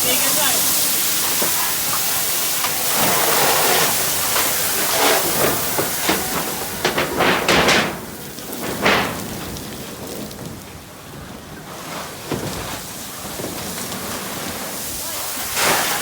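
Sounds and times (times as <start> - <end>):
fire hose spraying hiss: 0.0 - 16.0
water gushes: 0.0 - 16.0.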